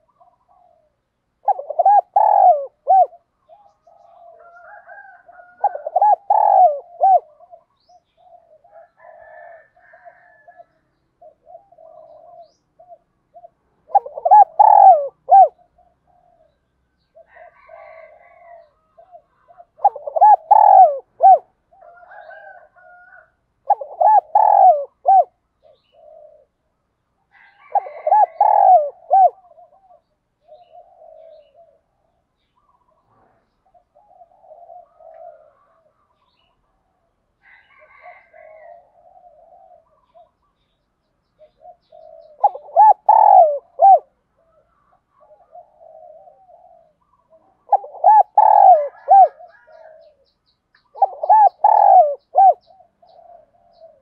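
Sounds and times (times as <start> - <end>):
dove cooing: 0.0 - 26.7, 27.3 - 40.7, 41.4 - 54.0.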